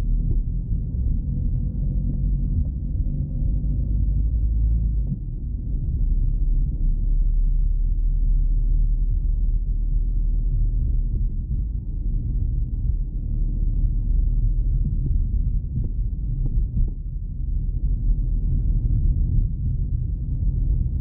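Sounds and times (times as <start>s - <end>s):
car cabin rumble: 0.0s - 21.0s.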